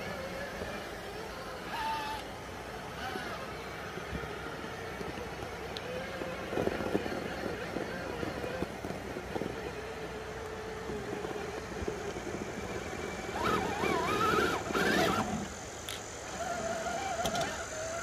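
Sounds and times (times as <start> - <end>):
toy truck electric motor whining: 0.0 - 18.0.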